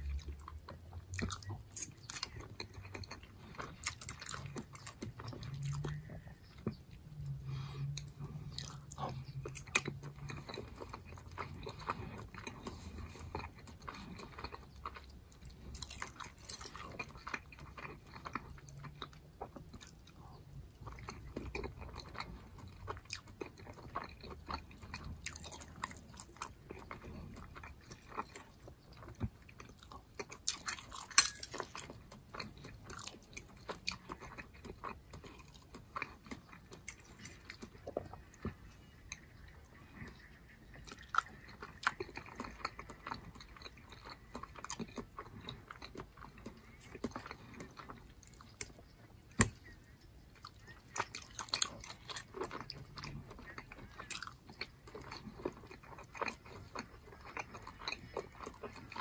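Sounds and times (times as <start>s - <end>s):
man chewing food: 0.0s - 59.0s.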